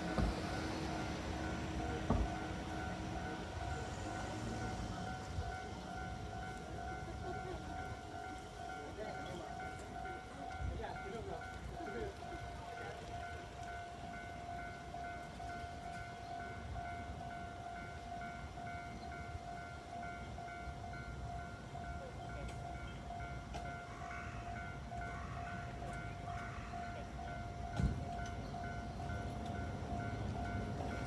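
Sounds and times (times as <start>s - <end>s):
level-crossing warning bell: 0.0s - 31.0s
low rumble of train: 0.0s - 31.0s.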